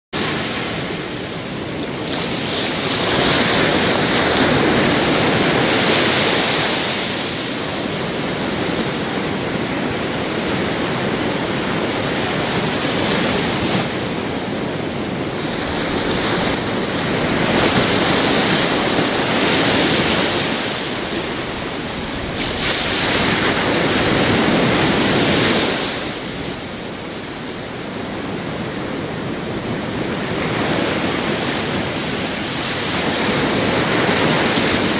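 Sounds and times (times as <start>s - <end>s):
surf breaking on beach: 0.2s - 34.9s.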